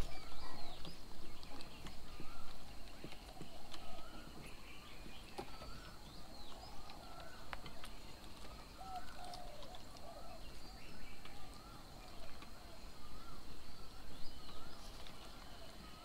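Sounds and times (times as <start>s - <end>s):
birds calling and chattering: 0.0s - 16.0s.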